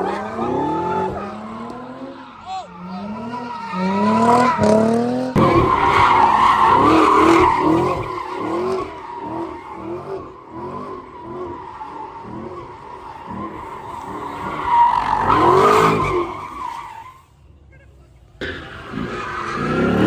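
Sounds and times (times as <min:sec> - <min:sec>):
car engine revving: 0:00.0 - 0:16.7, 0:18.3 - 0:20.0
car tires squealing: 0:00.0 - 0:20.0.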